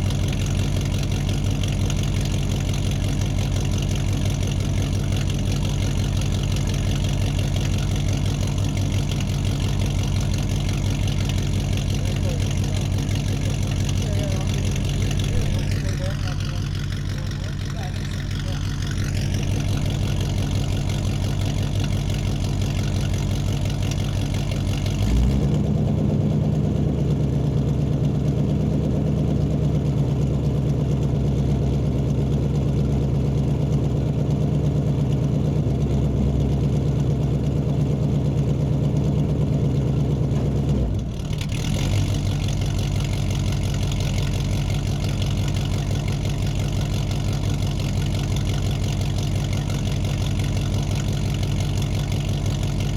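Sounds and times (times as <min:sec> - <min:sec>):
muscle car engine idling: 0:00.0 - 0:52.9.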